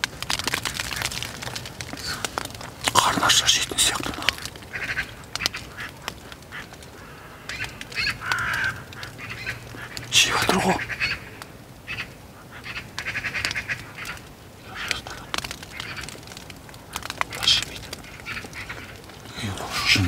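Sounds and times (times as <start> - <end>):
magpies chattering: 0.3 - 20.0.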